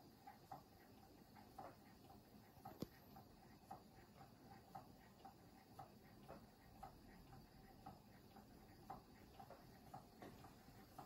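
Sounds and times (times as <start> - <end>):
steam engine ticking: 0.0 - 11.0.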